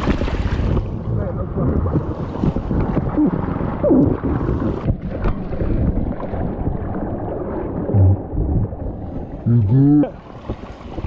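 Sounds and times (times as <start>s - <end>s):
wind buffeting microphone: 0.0s - 9.5s, 10.1s - 11.0s.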